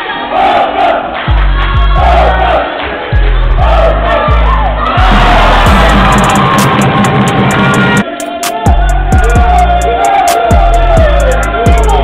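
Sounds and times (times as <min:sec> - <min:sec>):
loud music with fast beat: 0:01.3 - 0:12.0.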